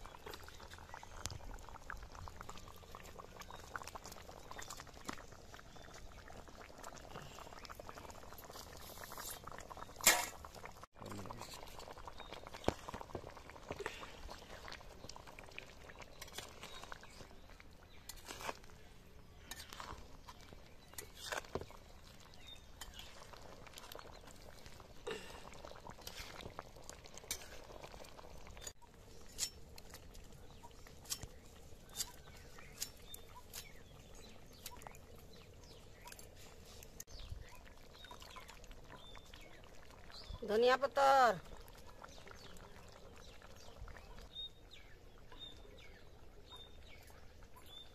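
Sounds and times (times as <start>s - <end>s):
curry bubbling: 0.0s - 47.9s.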